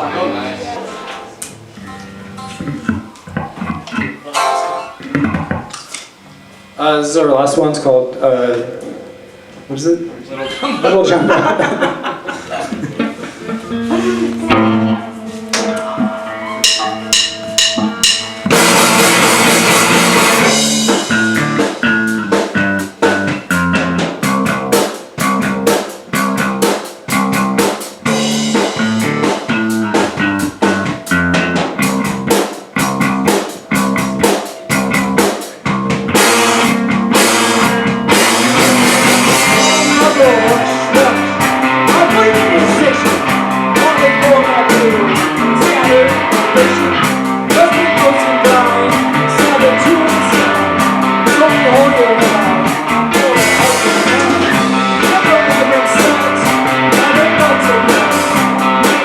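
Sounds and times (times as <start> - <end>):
rock band playing: 0.0 - 6.8, 10.9 - 59.0.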